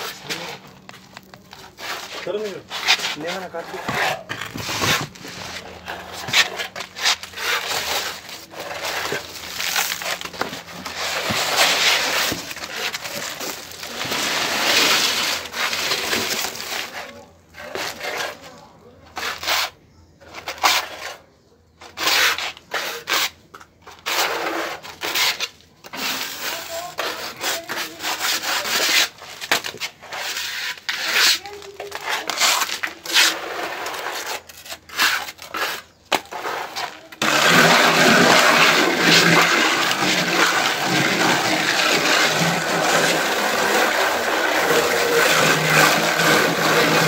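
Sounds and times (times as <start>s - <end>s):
scraping against rough wall: 0.0s - 47.0s.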